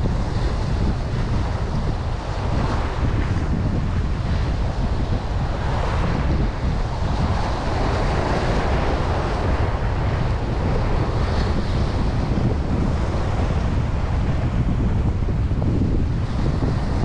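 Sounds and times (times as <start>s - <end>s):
waves washing: 0.0s - 17.0s
wind buffeting microphone: 0.0s - 17.0s.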